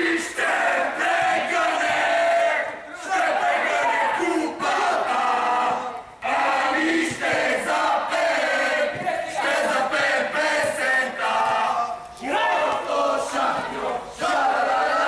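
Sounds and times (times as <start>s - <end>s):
group chanting and shouting: 0.0s - 15.0s.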